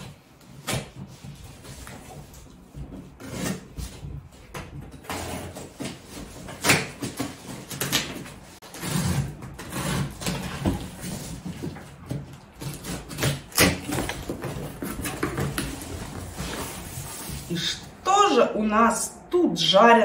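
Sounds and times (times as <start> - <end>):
cardboard tearing and rustling: 0.0 - 17.9.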